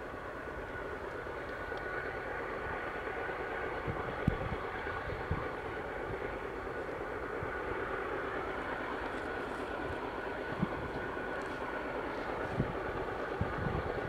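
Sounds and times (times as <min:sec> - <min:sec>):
distant locomotive rumble: 0:00.0 - 0:14.0.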